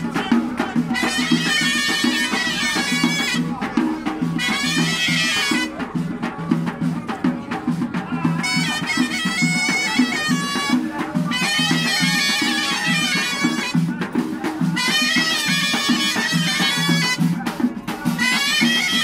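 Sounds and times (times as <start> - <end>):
drum beating steady rhythm: 0.0 - 19.0
shawm playing nasal melody: 0.0 - 19.0.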